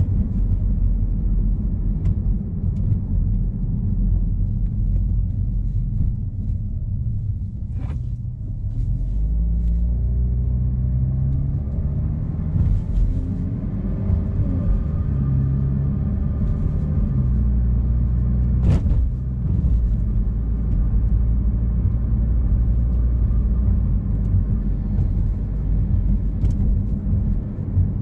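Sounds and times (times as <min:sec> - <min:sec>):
car exhaust rumble: 0:00.0 - 0:28.0.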